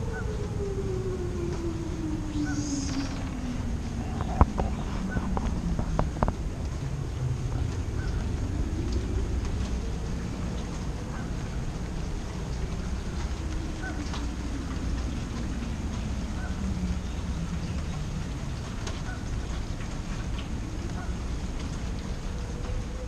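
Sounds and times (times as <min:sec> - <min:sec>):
distant warning siren wailing: 0:00.0 - 0:23.0
storm wind rumbling: 0:00.0 - 0:23.0.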